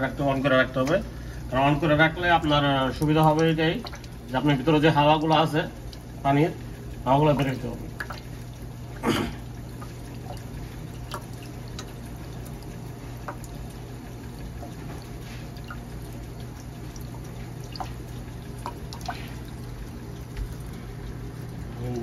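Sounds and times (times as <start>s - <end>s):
steady low hum: 0.0s - 22.0s
water trickling and dripping: 0.0s - 22.0s.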